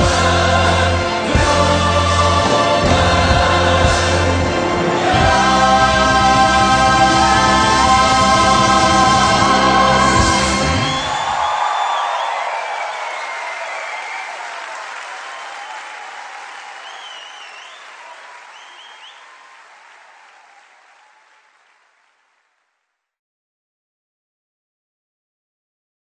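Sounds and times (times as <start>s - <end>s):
audience applauding: 0.0s - 22.8s.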